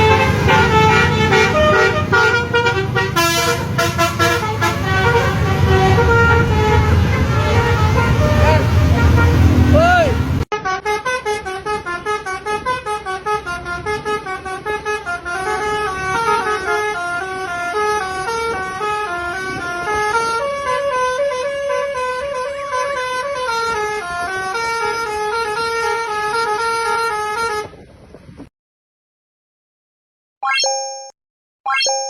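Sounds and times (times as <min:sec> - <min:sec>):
multi-tone bus horn melody: 0:00.0 - 0:27.8.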